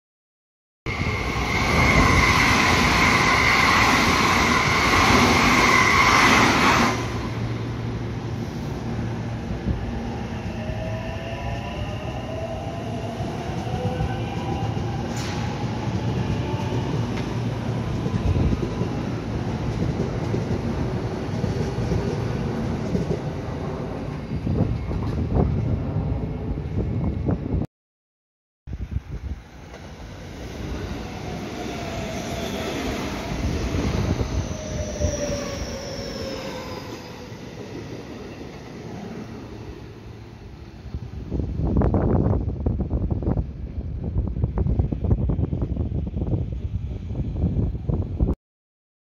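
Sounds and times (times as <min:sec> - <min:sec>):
passing train whining: 0:00.9 - 0:27.6, 0:28.8 - 0:48.2.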